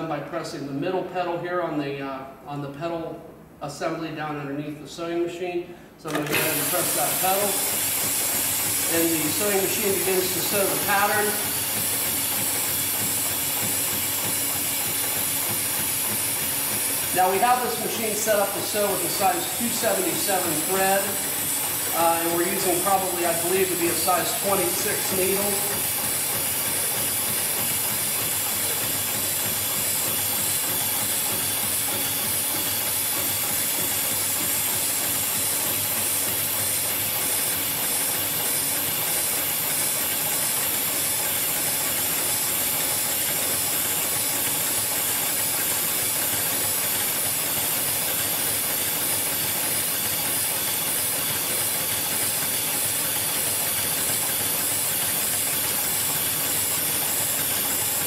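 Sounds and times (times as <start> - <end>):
sewing machine whirring: 6.0 - 58.0.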